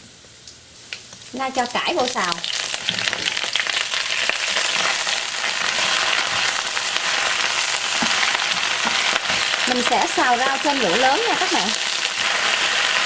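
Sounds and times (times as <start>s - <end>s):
greens sizzling in a wok: 0.7s - 13.0s.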